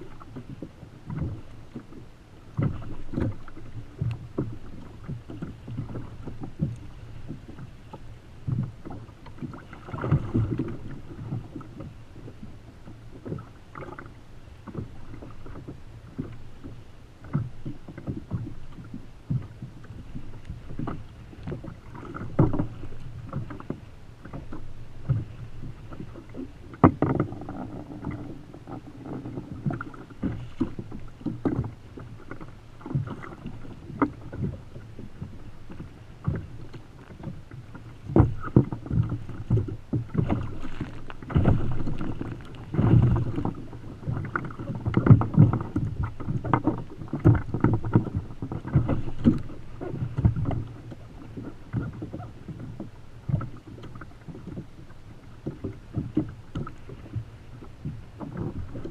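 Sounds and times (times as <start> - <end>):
sea slapping against kayak hull: 0.0 - 58.9.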